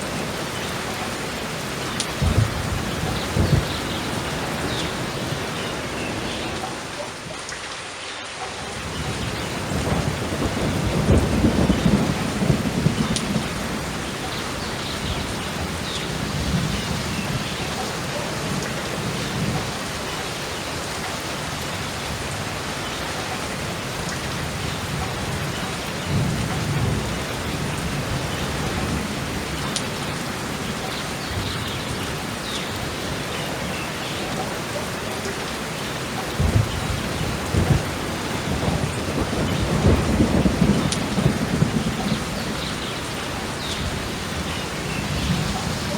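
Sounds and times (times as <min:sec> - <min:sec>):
rolling thunder: 0:00.0 - 0:07.4, 0:08.8 - 0:20.1, 0:22.0 - 0:45.9
steady rain: 0:00.0 - 0:45.9.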